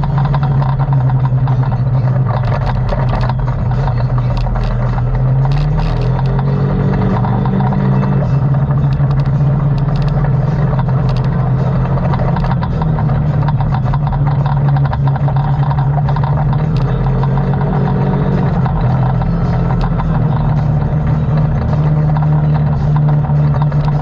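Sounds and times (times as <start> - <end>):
clicks and rattles: 0.0 - 24.0
engine running steadily: 0.0 - 24.0.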